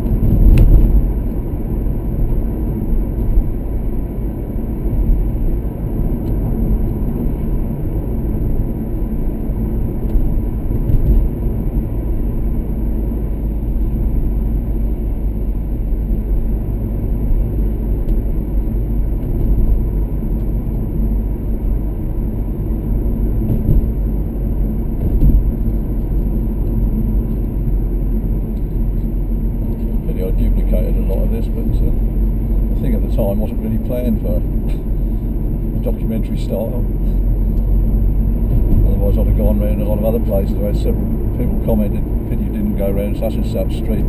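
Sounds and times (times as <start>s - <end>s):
car driving road rumble: 0.0s - 44.0s.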